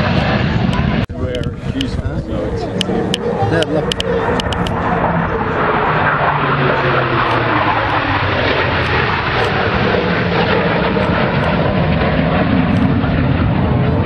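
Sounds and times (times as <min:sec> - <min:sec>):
jet planes flying past: 0:00.0 - 0:14.0.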